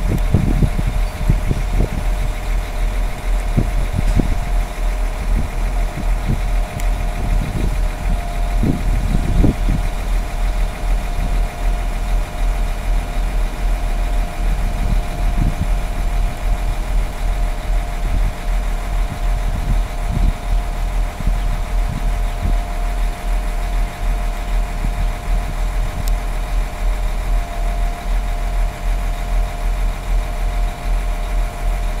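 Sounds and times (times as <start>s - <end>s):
train rolling into station: 0.0s - 32.0s.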